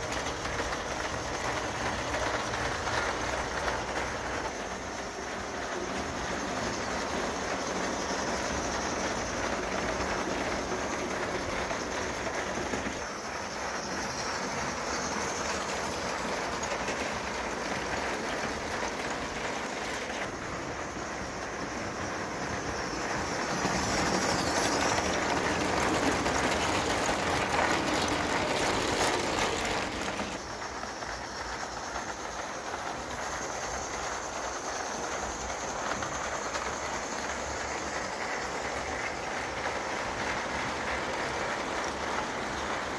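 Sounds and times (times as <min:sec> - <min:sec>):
model train rattling on metal track: 0:00.0 - 0:42.9.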